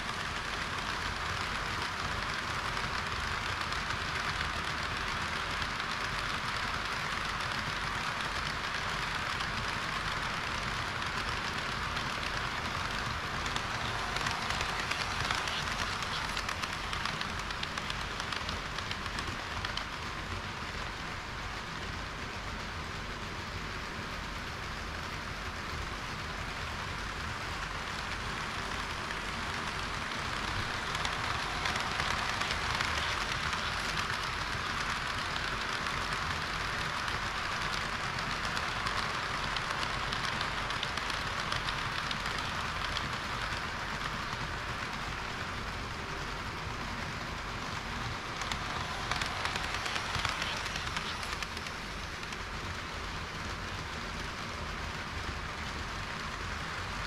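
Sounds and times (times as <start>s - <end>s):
model train wheels and motors: 0.0s - 57.0s.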